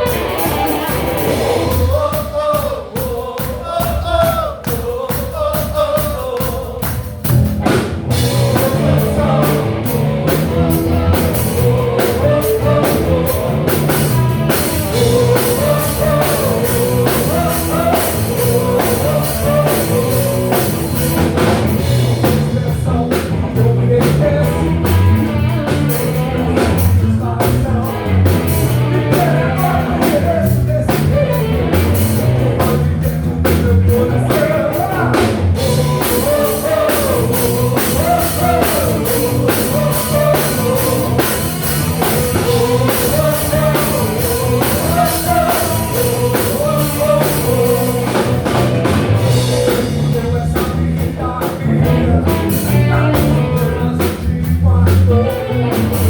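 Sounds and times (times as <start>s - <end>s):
rock band playing: 0.0s - 56.0s
person singing: 8.2s - 56.0s.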